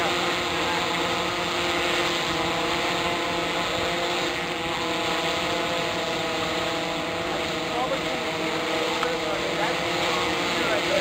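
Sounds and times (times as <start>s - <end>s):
drone motors and propellers humming: 0.0s - 11.0s.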